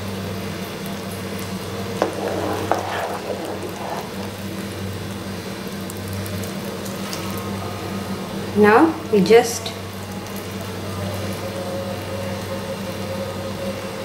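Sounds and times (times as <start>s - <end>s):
syrup boiling and bubbling: 0.0s - 9.1s, 9.8s - 14.0s.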